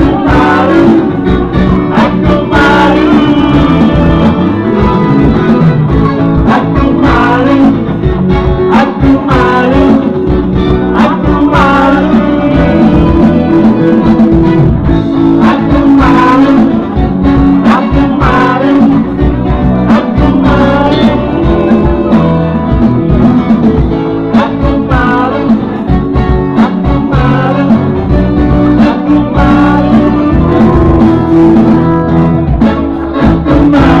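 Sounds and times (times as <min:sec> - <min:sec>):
man singing into a microphone: 0:00.0 - 0:23.2, 0:23.8 - 0:34.0
drum kit: 0:00.0 - 0:34.0
guitar: 0:00.0 - 0:34.0.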